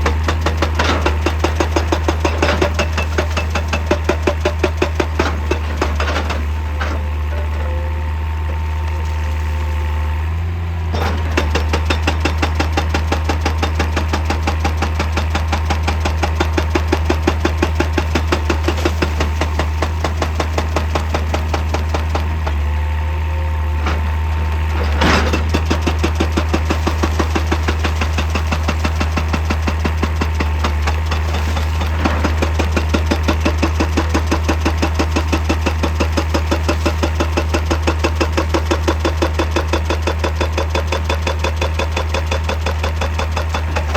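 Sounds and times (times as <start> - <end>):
hydraulic breaker hammering rock: 0.0 - 9.1, 10.6 - 43.9
excavator engine running: 0.0 - 43.9.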